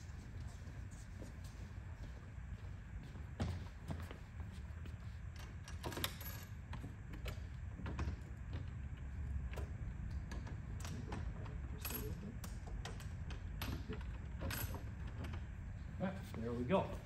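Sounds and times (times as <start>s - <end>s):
low room rumble: 0.0s - 17.0s.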